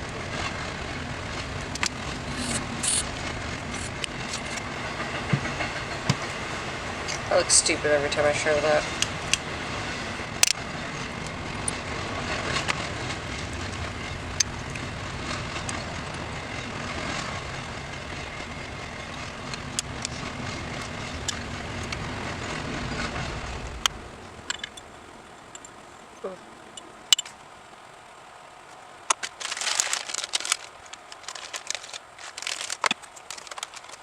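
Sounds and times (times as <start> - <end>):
low engine-like rumbling: 0.0 - 34.0.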